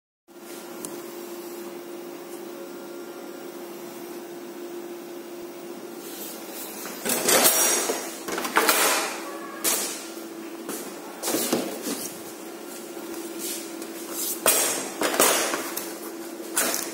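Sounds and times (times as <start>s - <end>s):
steady hum: 0.3s - 16.9s.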